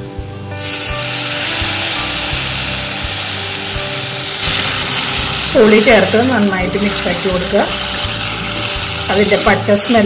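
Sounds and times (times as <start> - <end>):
food sizzling in hot oil: 0.5 - 10.0.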